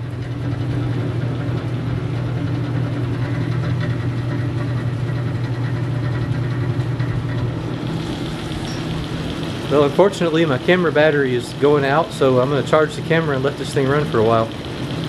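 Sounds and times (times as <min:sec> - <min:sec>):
refrigerator motor humming: 0:00.0 - 0:15.0.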